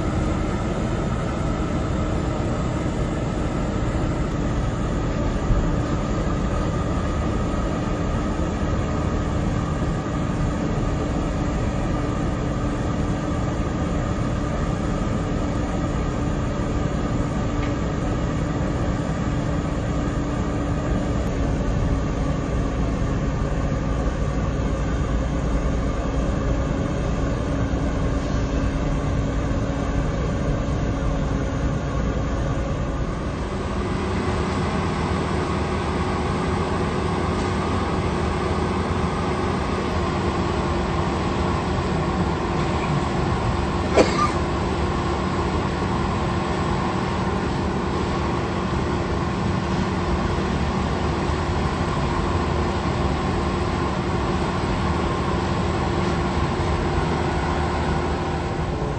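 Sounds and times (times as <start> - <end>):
industrial machinery humming: 0.0 - 58.9.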